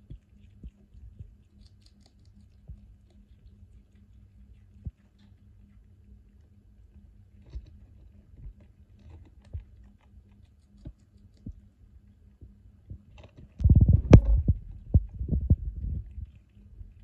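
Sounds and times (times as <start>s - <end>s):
squirrel chewing food: 0.0s - 17.0s.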